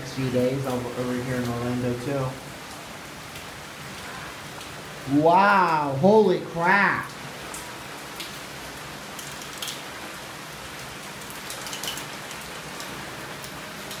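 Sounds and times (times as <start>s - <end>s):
heavy rain falling: 0.0s - 14.0s
sharp raindrop hits: 0.0s - 14.0s.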